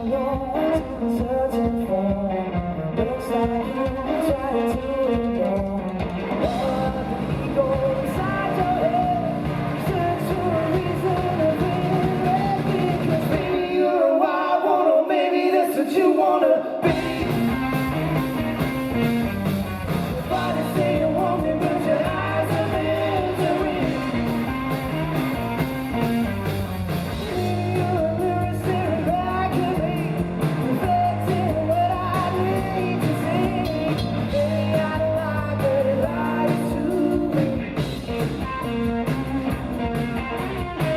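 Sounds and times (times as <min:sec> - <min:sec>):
bass guitar: 0:00.0 - 0:13.8, 0:16.8 - 0:40.9
electric guitars: 0:00.0 - 0:14.7, 0:16.6 - 0:40.9
drums: 0:00.0 - 0:40.9.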